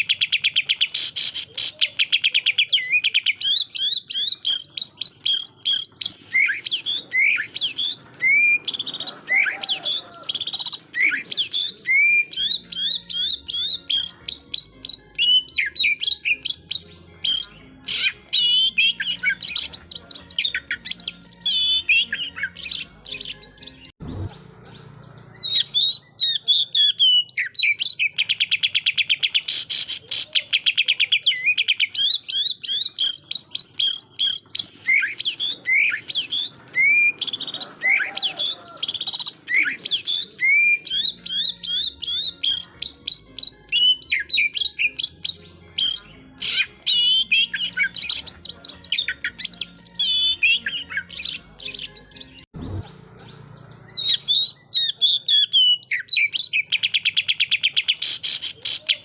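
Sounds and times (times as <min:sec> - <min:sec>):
bird singing whistles and chatter: 0:00.0 - 0:59.0.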